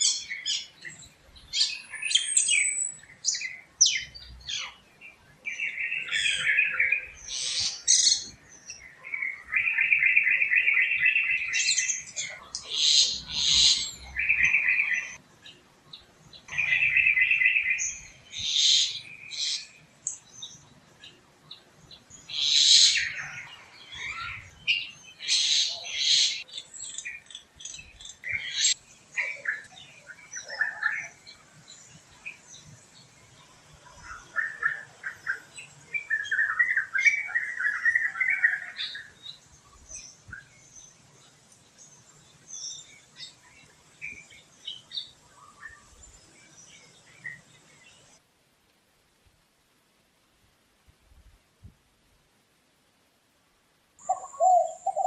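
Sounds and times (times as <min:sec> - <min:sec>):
warbled bird song: 0:00.0 - 0:48.2, 0:54.0 - 0:55.0
forest birds chirping: 0:00.0 - 0:48.5, 0:52.8 - 0:55.0.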